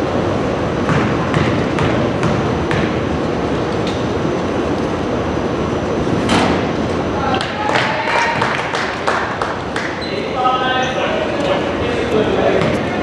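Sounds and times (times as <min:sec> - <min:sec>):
hubbub of gym hall: 0:00.0 - 0:13.0.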